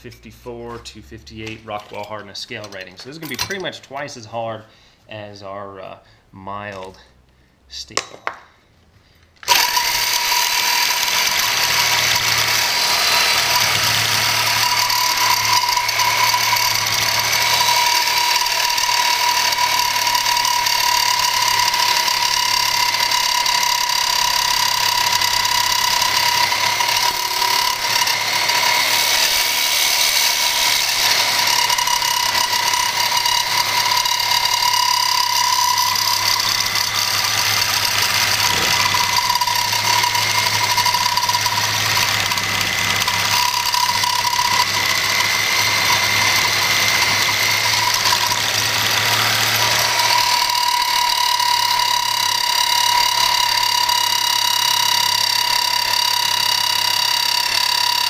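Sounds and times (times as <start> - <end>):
reciprocating saw cutting steel: 9.4 - 58.0.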